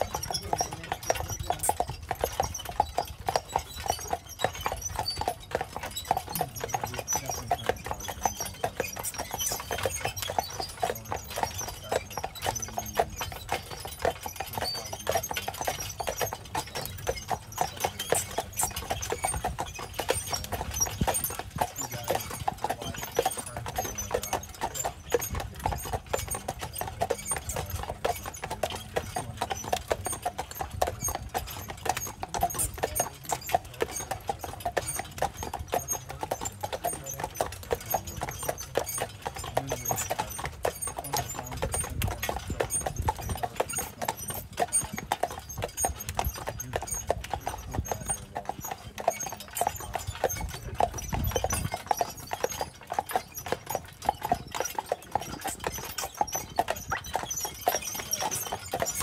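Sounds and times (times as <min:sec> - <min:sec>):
horse hooves clip-clopping on pavement: 0:00.0 - 0:59.0.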